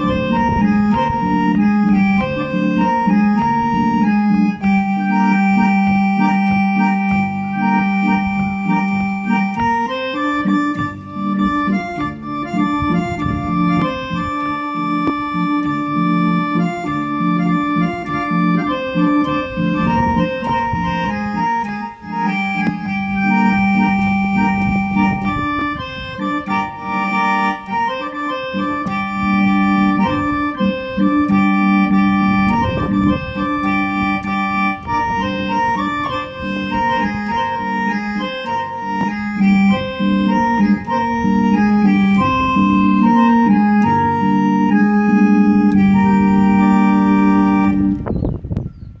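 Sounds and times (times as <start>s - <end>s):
accordion melody with bass notes: 0.0s - 49.0s.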